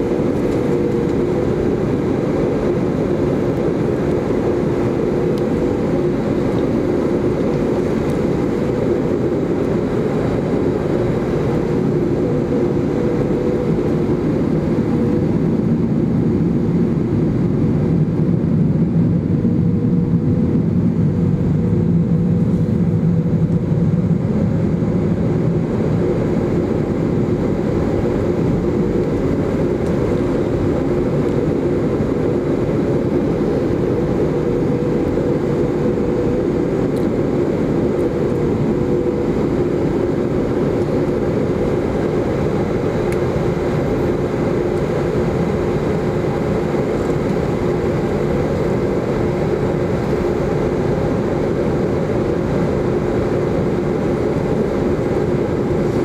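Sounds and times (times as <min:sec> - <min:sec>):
airliner engines idling: 0:00.0 - 0:56.0
constant low hum: 0:00.0 - 0:56.0.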